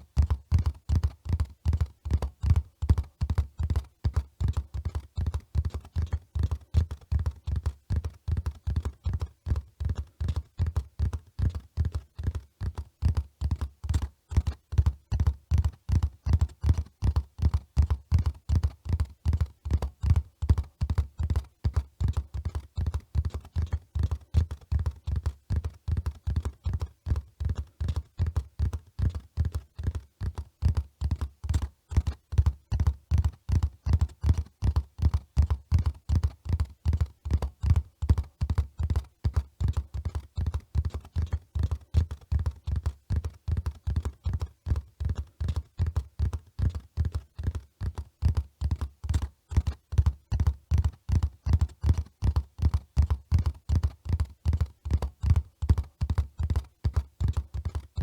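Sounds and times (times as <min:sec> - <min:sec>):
horse hoofbeats at a run: 0:00.0 - 0:58.0.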